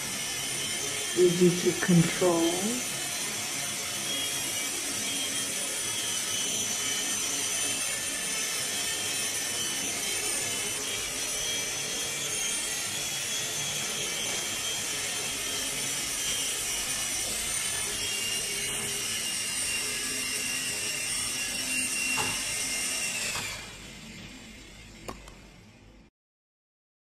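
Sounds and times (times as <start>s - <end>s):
toy helicopter whirring: 0.0s - 26.0s.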